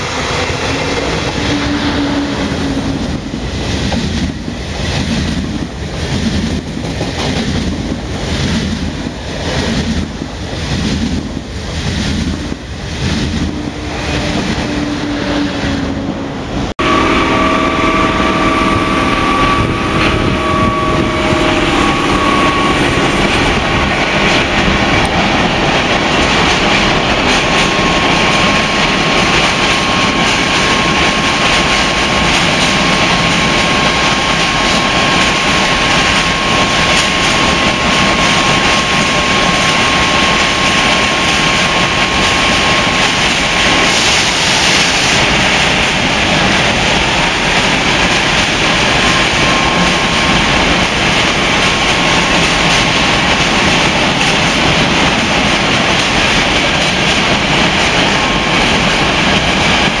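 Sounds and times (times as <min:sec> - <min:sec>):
freight train wheels on rails: 0:00.0 - 1:00.0.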